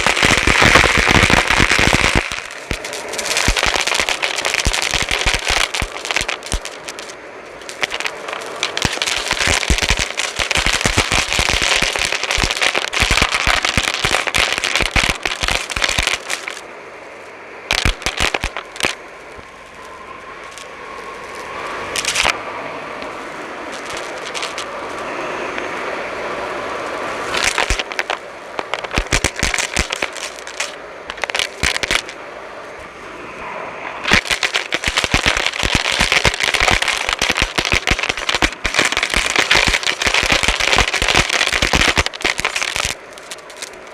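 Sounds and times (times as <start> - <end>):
debris crackling through vacuum: 0.0 - 16.7, 17.6 - 22.4, 23.0 - 25.7, 27.2 - 32.2, 33.8 - 43.9.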